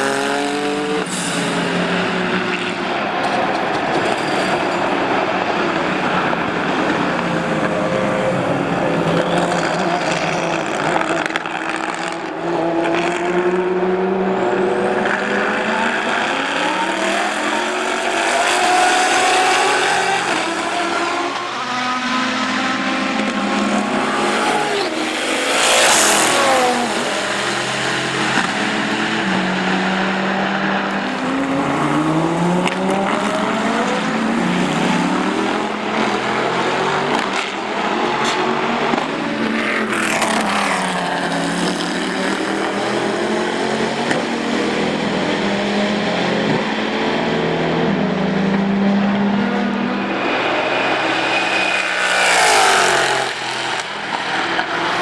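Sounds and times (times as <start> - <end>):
race car passing by: 0.0 - 55.0
racing car engines at full throttle: 0.0 - 55.0.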